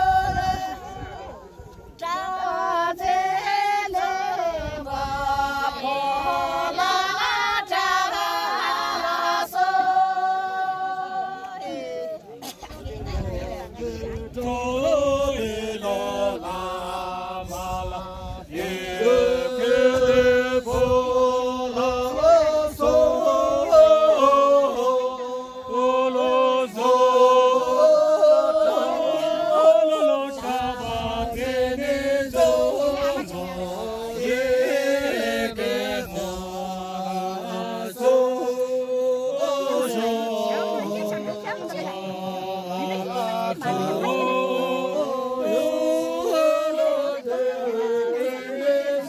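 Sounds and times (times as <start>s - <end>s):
group singing a chant: 0.0s - 12.3s, 12.9s - 49.0s.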